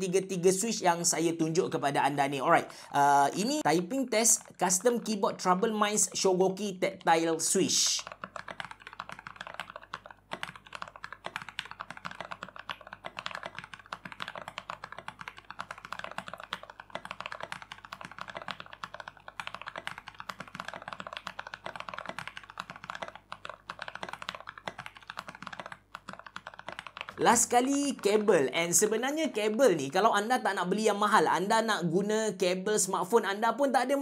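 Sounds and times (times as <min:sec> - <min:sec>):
mechanical keyboard typing: 0:00.0 - 0:31.6.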